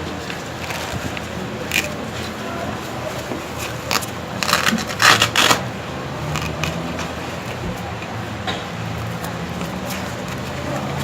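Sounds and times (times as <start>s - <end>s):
blood pressure cuff rustling: 0.0s - 11.0s.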